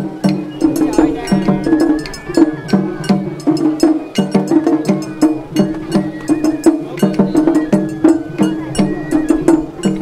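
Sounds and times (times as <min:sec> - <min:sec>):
festival drumming: 0:00.0 - 0:10.0.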